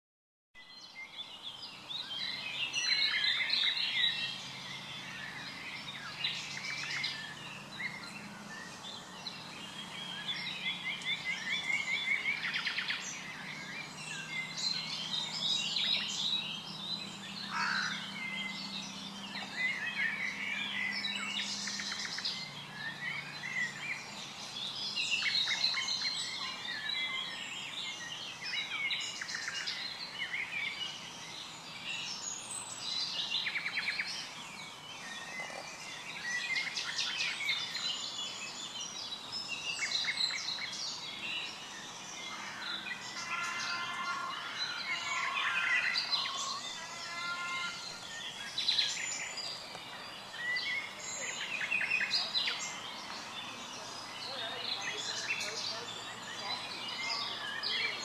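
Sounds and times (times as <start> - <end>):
songbirds chorus: 0.6 - 58.0.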